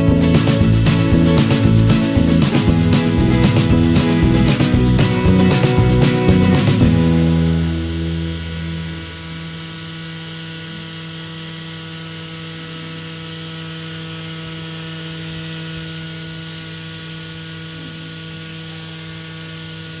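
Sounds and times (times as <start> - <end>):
small exhaust fan motor humming: 0.0 - 20.0.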